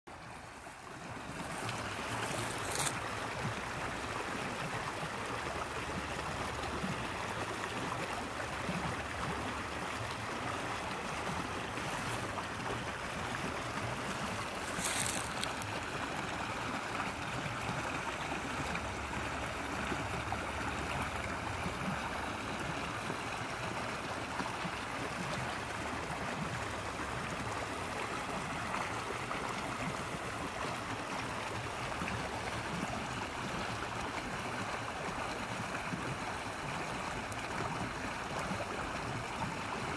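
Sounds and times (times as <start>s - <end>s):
creek babbling over rocks: 0.1s - 39.9s.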